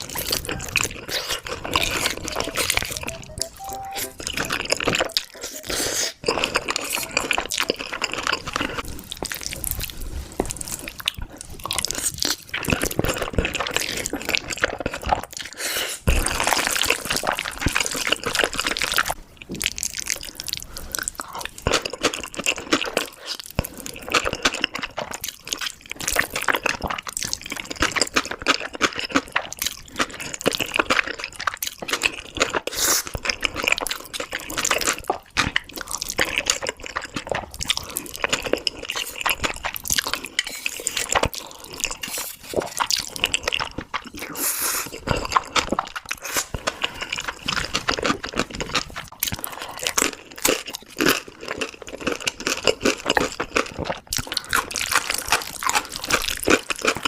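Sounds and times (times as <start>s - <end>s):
chewing with wet smacks: 0.0s - 3.4s, 4.2s - 15.6s, 16.3s - 57.0s.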